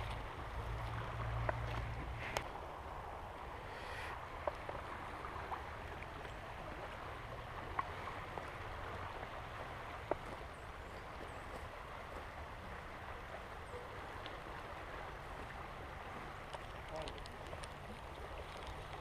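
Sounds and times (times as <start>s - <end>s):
creek rushing: 0.0s - 19.0s.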